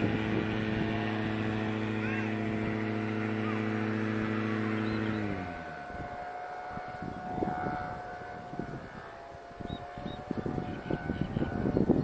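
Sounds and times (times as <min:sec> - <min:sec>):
distant paramotor engine humming: 0:00.0 - 0:12.0
wind gusting on microphone: 0:00.0 - 0:12.0.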